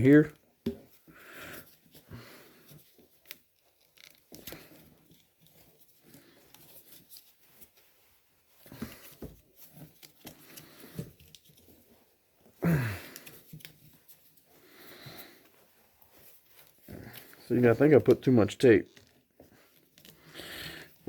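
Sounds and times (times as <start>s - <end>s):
plastic hose handling noise: 0.0s - 21.0s.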